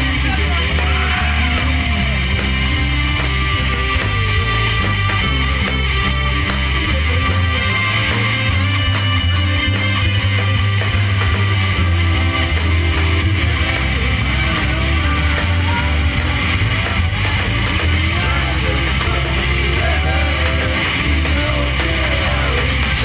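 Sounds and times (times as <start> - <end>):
man singing lead: 0.0 - 23.0
rock band playing: 0.0 - 23.0.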